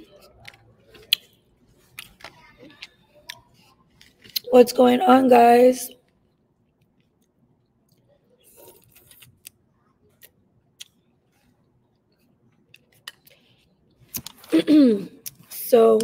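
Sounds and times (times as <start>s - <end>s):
faint chewing: 0.0s - 4.5s, 6.0s - 16.0s.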